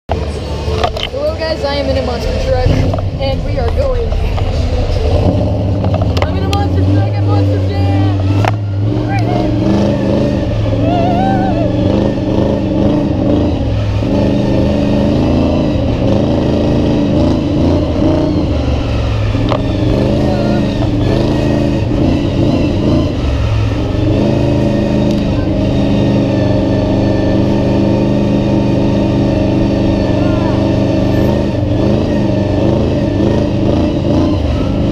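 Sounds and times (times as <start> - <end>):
monster truck engine revving: 0.1 - 34.9.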